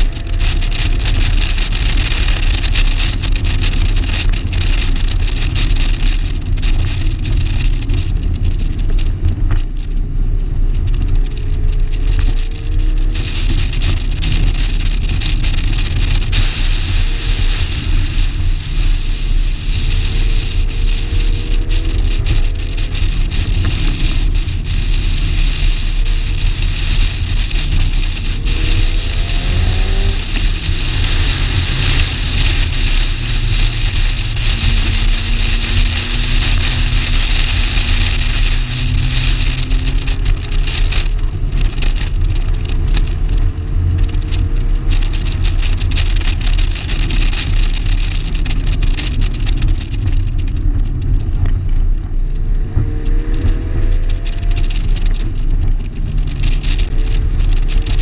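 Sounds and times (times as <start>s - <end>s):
car engine running hard: 0.0s - 58.0s
wind and road noise: 0.0s - 58.0s.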